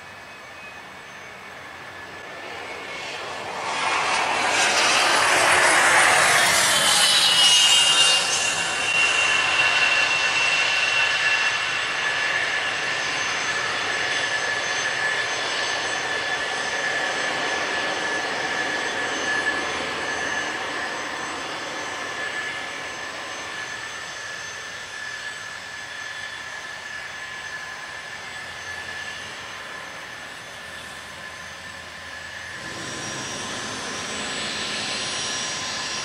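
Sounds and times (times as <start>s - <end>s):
jet engine rush: 0.0s - 36.0s
jet turbofans whining: 0.0s - 36.0s.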